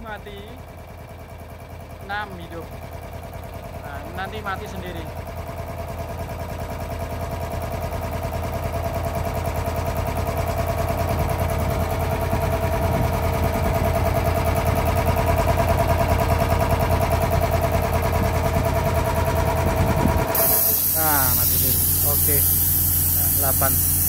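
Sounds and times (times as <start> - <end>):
air compressor chugging: 0.0 - 24.0.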